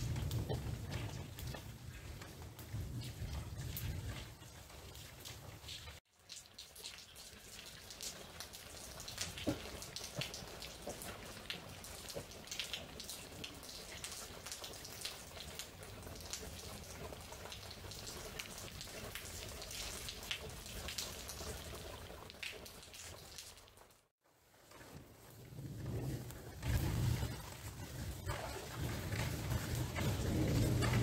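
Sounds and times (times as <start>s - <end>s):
raindrops ticking: 0.0s - 24.1s, 25.2s - 31.0s
steady rain hiss: 0.0s - 31.0s.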